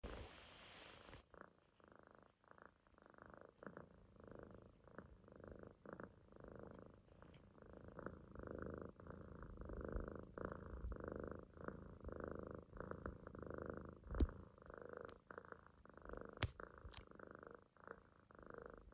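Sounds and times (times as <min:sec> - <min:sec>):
kitten snoring: 0:00.0 - 0:18.9.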